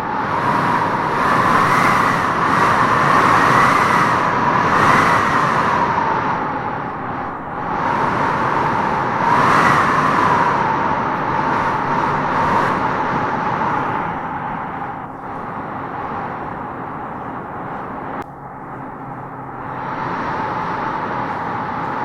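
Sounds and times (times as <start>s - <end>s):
howling wind through trees: 0.0s - 22.0s.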